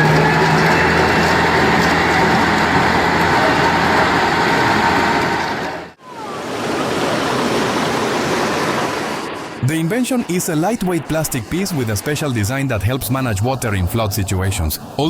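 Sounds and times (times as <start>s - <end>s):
even rushing noise: 0.0s - 15.0s.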